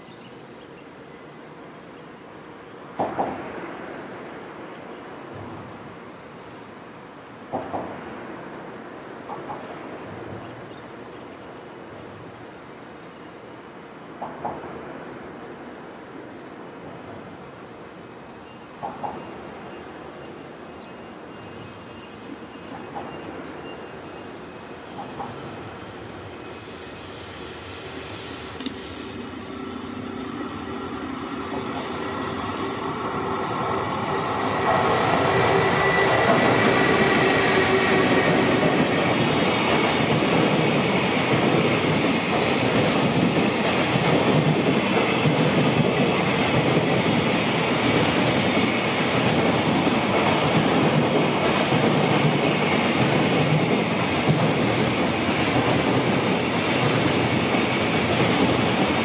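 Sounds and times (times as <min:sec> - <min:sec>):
freight train rumbling past: 0:00.0 - 0:59.0
insects chirping: 0:00.0 - 0:59.0.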